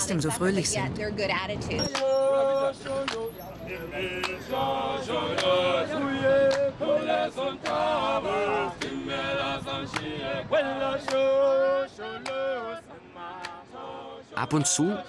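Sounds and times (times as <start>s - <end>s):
men singing in harmony: 1.8s - 15.0s.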